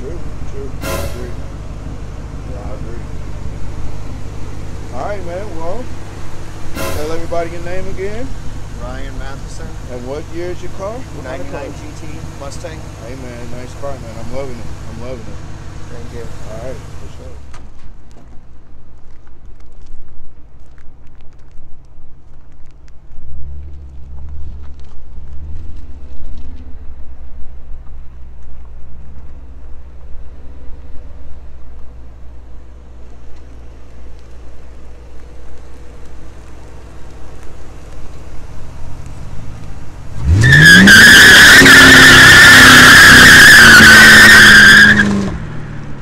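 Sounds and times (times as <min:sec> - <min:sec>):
tires squealing: 0:00.0 - 0:17.9, 0:23.2 - 0:46.0
car engine rumbling and revving: 0:00.0 - 0:46.0.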